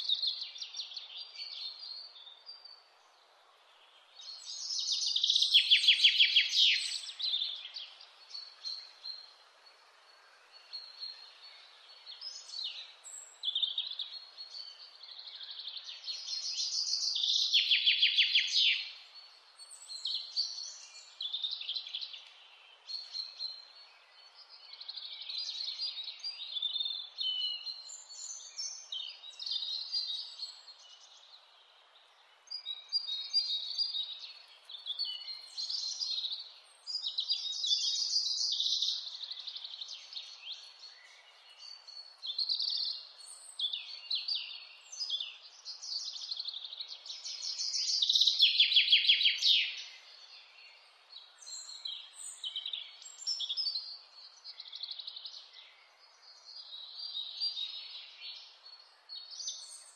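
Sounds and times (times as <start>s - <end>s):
faint steady hiss: 0.0s - 48.8s
songbirds singing and calling: 0.0s - 59.9s.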